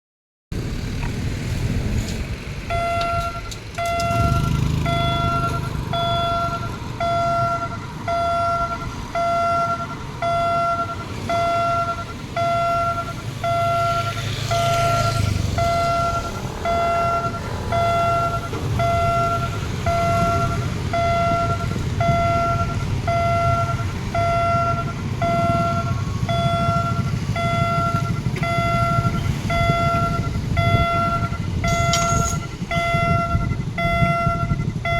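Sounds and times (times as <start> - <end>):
low engine rumble: 0.5 - 34.9
two-tone crossing alarm beeps: 2.7 - 34.9.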